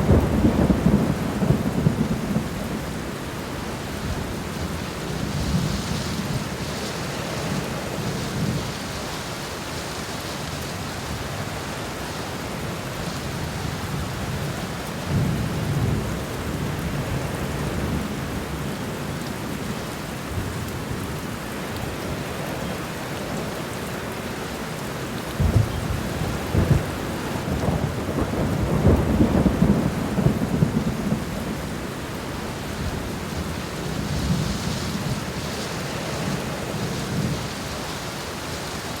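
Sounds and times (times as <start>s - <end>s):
rain on ground and leaves: 0.0s - 39.0s.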